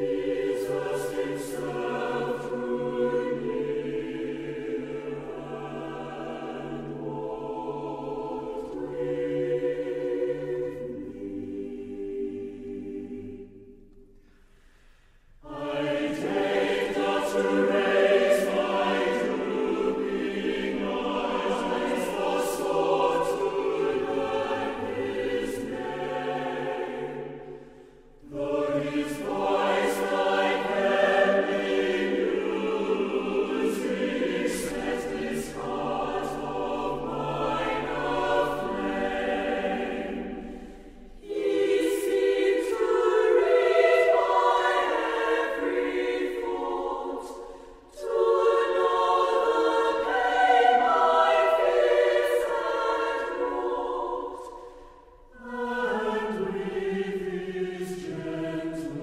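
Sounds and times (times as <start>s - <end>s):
choir singing: 0.0s - 14.2s, 15.2s - 59.0s.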